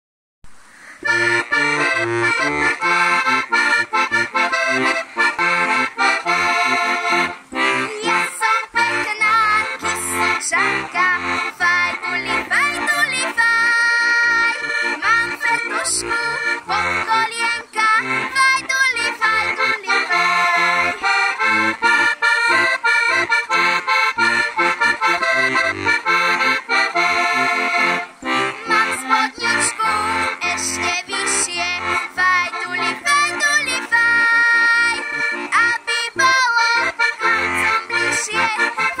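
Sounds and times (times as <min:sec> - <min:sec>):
button accordion playing folk tune: 0:01.0 - 0:39.0.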